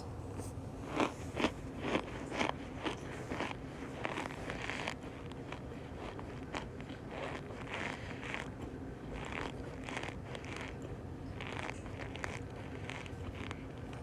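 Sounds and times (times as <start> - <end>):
cornstarch crunching and squeaking: 0.9 - 14.0.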